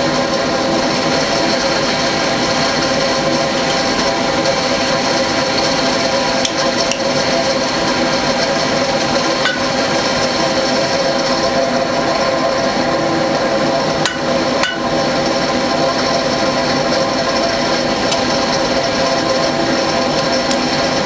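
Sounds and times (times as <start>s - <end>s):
machine whirring with steady tones: 0.0s - 21.0s.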